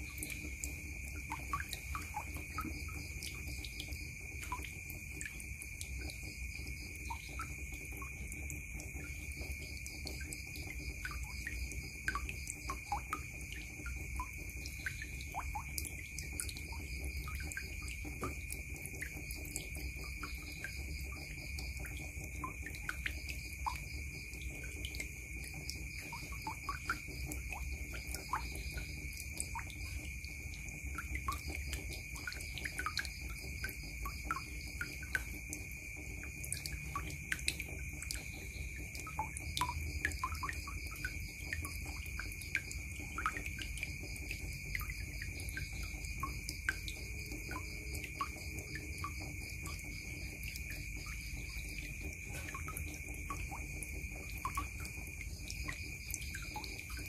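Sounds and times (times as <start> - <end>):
water dripping into basin: 0.0 - 57.0.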